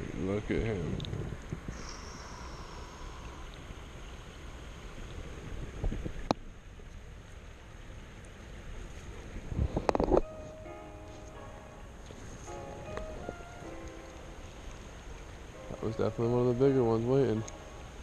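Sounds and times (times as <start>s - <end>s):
wind rumbling on microphone: 0.0s - 16.2s
creek water running: 0.0s - 18.0s.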